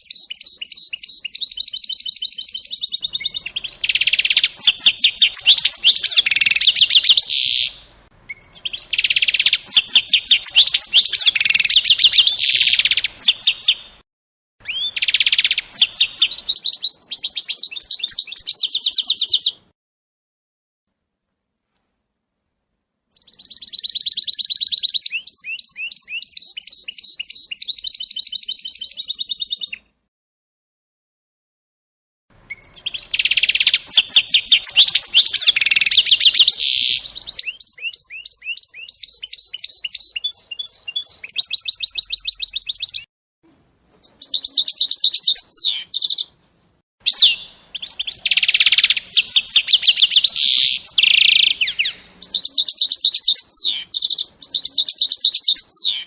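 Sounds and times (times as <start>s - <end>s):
songbird trilling and chirping: 0.0s - 14.0s, 14.6s - 19.6s, 23.1s - 29.9s, 32.5s - 43.1s, 43.9s - 46.3s, 47.0s - 56.0s.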